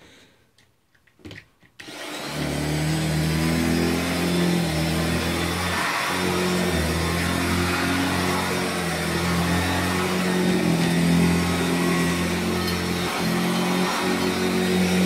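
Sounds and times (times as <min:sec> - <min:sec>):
vacuum cleaner motor droning: 0:01.8 - 0:15.0.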